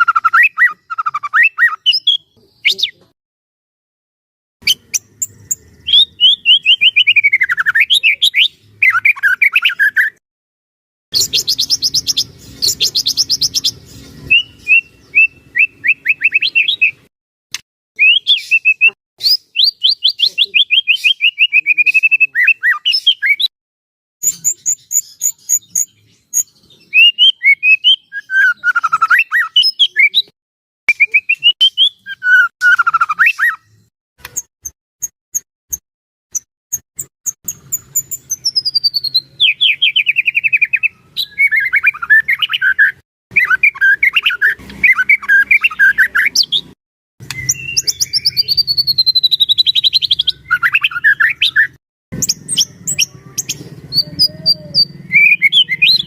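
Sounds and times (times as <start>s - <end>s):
songbird whistling: 0.0s - 3.0s, 4.6s - 10.2s, 11.1s - 17.1s, 18.0s - 23.5s, 24.2s - 30.3s, 30.9s - 33.8s, 37.5s - 56.0s.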